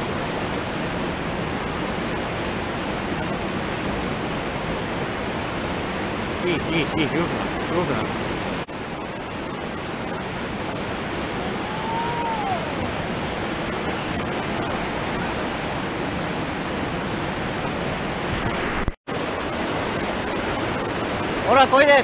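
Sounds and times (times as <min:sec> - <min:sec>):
whitewater rapids rushing: 0:00.0 - 0:22.0.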